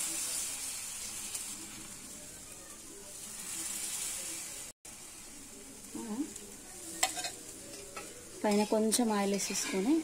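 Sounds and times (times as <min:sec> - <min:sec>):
batter sizzling on griddle: 0:00.0 - 0:10.0.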